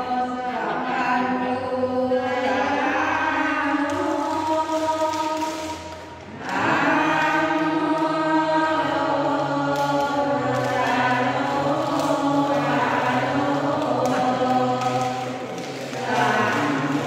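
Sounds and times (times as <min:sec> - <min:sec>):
voices chanting a prayer: 0:00.0 - 0:17.0.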